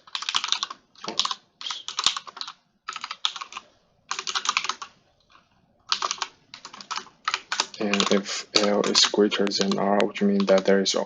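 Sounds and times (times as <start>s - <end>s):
typing on computer keyboard: 0.0s - 10.8s.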